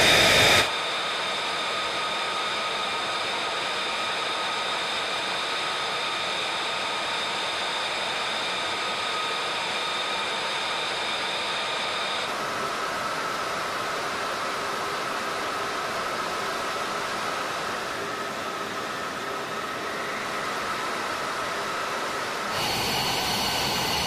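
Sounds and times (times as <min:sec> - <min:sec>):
jet engine idling with high whine: 0:00.0 - 0:24.0.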